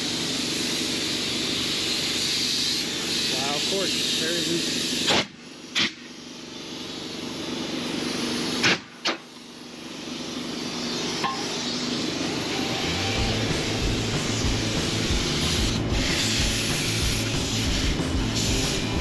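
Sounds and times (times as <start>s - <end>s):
compressed air hissing: 0.0s - 19.0s.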